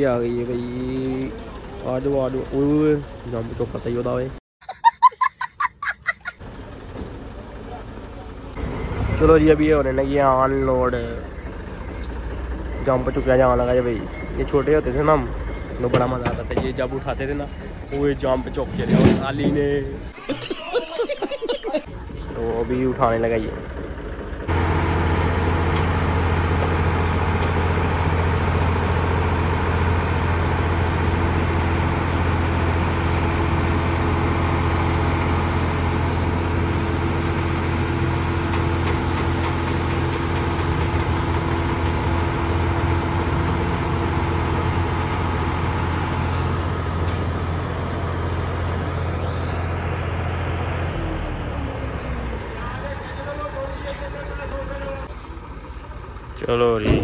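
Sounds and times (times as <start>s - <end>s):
truck engine hum: 0.0s - 57.0s.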